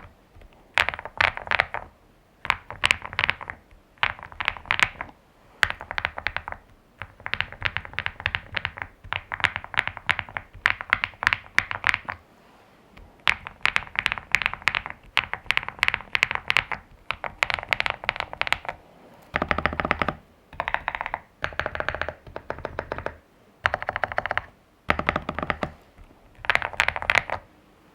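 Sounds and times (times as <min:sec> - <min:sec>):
mechanical keyboard typing: 0:00.0 - 0:12.2, 0:13.0 - 0:27.5.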